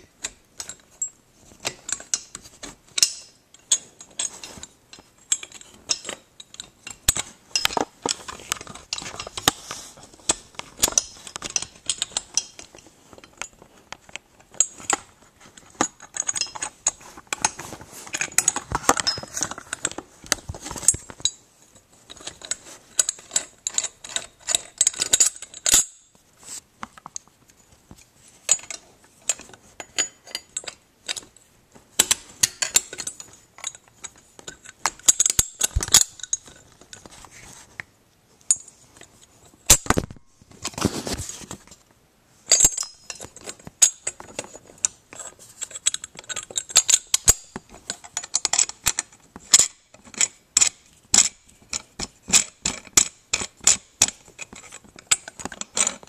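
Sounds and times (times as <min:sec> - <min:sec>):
metal hardware clicking and rattling: 0:00.0 - 0:26.2, 0:28.3 - 0:37.2, 0:42.5 - 0:56.0.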